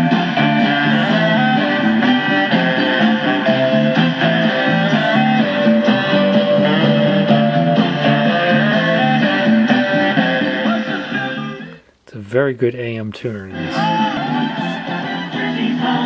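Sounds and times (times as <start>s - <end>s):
guitar music from small radio speaker: 0.0s - 11.9s, 13.5s - 16.0s.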